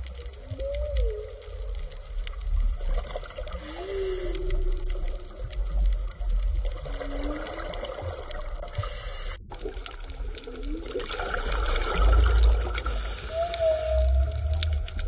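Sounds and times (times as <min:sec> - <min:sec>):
low underwater rumble: 0:00.0 - 0:15.0
underwater water wash: 0:00.0 - 0:15.0.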